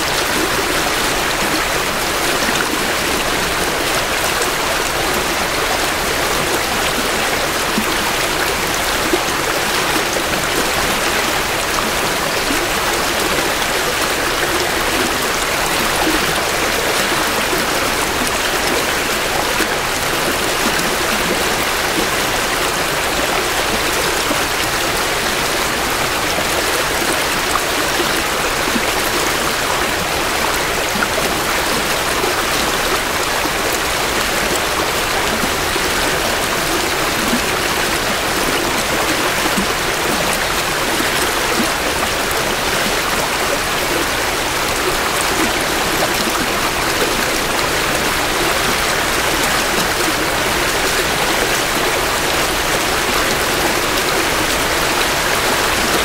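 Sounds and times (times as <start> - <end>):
creek water flowing over rocks: 0.0 - 56.0.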